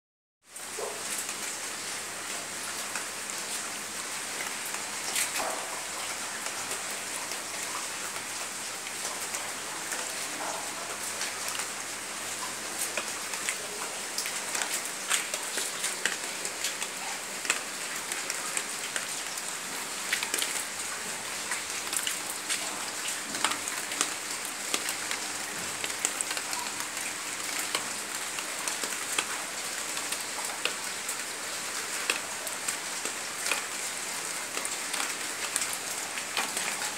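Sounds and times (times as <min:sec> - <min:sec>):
heavy rain falling: 0:00.5 - 0:36.9.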